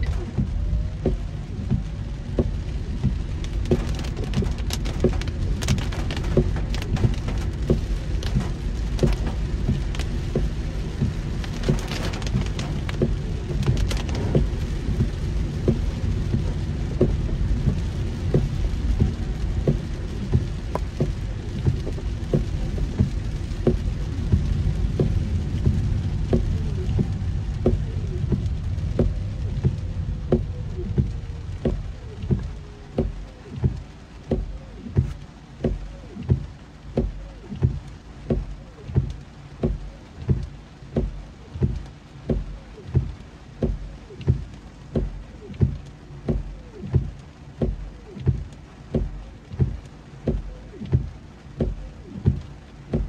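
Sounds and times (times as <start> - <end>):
car low rumble: 0.0 - 53.0
rain hiss: 0.0 - 53.0
raindrops ticking on car: 0.0 - 53.0.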